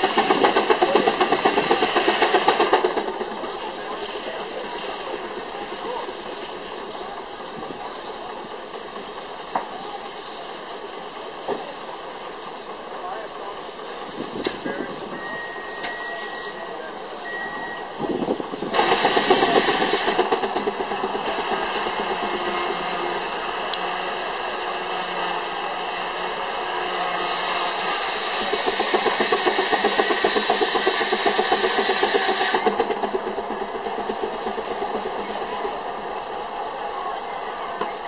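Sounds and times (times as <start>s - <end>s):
steam engine exhaust beat: 0.0s - 37.0s
steam hiss: 0.0s - 38.0s.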